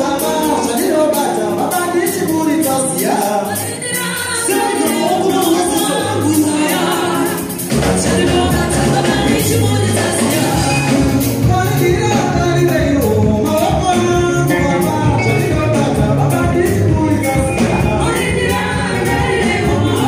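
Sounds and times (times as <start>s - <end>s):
gospel band playing: 0.0s - 20.0s
man singing into microphone: 0.0s - 20.0s.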